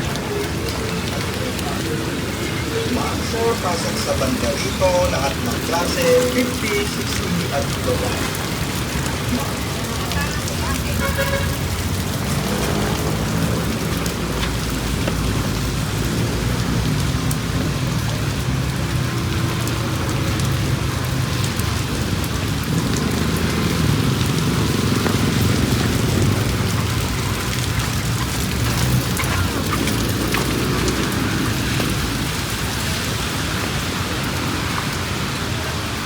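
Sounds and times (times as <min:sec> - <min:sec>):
steady rain on street: 0:00.0 - 0:36.0
traffic engines: 0:00.0 - 0:36.0.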